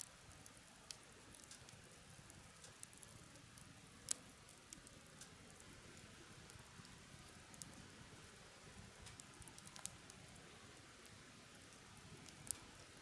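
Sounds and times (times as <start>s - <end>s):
campfire crackling: 0.0s - 13.0s
soft steady hiss: 0.0s - 13.0s.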